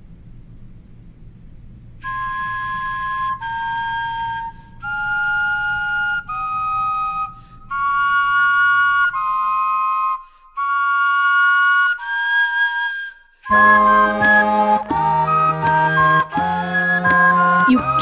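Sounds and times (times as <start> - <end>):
vegetable flutes playing melody: 2.0 - 18.0.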